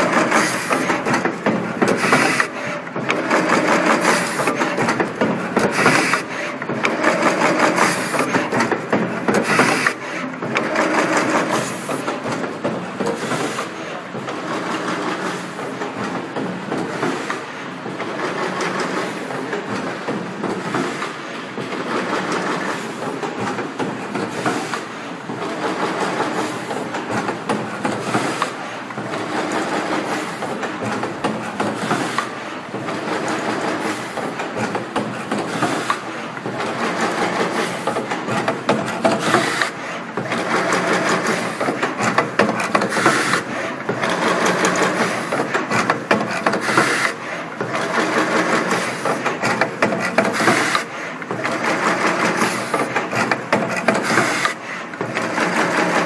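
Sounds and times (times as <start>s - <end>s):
machine clattering with sharp clicks: 0.0s - 56.0s.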